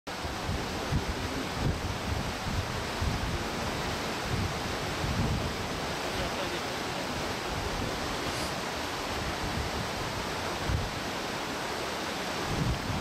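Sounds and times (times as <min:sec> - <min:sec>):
stream running over stones: 0:00.1 - 0:13.0
wind buffeting microphone: 0:00.1 - 0:13.0.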